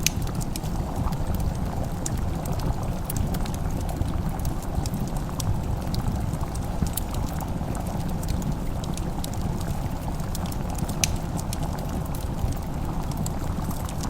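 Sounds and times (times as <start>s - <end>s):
fireplace crackling: 0.0s - 14.0s
low fire rumble: 0.0s - 14.0s.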